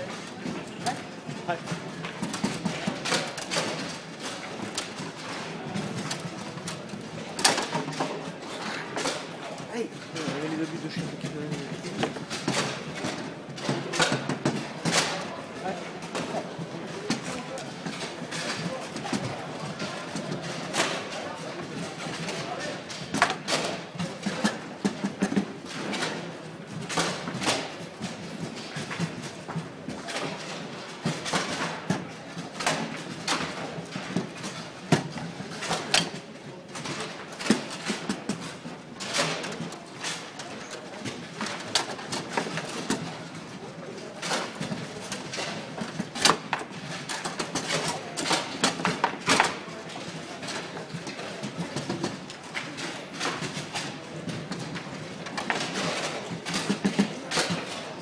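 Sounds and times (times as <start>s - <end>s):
background murmur: 0.0s - 58.0s.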